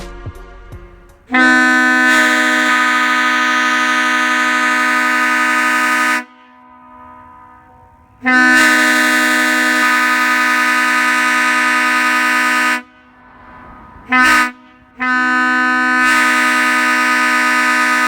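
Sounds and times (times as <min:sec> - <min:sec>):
two-chime air train horn: 0:00.1 - 0:13.2, 0:14.1 - 0:18.0.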